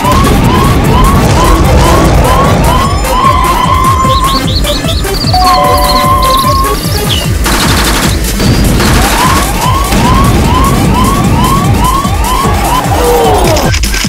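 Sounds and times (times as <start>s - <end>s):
siren-like wail: 0.0s - 7.1s, 8.7s - 13.7s
electronic music with fast beat: 0.0s - 14.0s.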